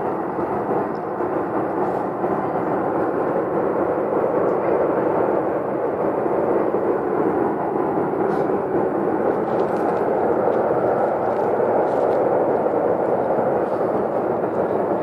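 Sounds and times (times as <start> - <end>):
loud rumbling in the sky: 0.0 - 15.0.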